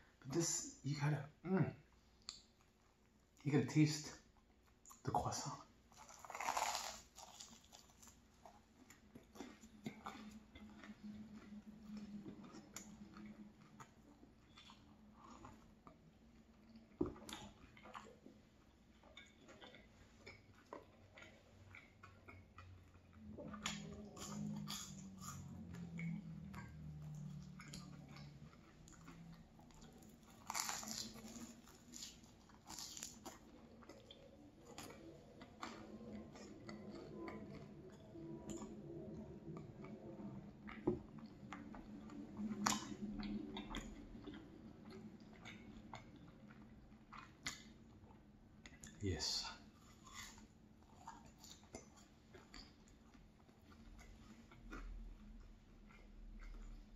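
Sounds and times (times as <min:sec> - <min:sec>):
croissant crackling while chewed: 0:04.2 - 0:56.9.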